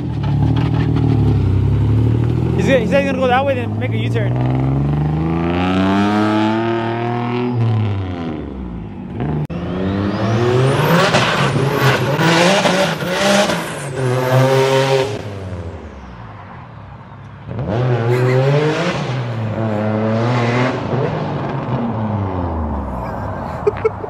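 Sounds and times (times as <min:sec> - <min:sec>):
car engine accelerating: 0:00.0 - 0:16.2, 0:17.5 - 0:23.8.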